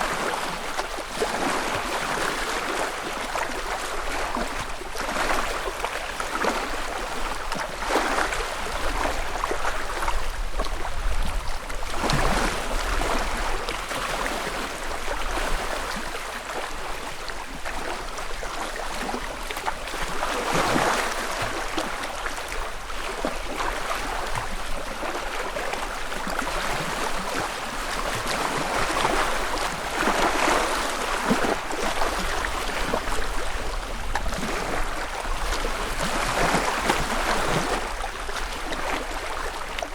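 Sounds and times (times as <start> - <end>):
waves lapping on shore: 0.0 - 39.9.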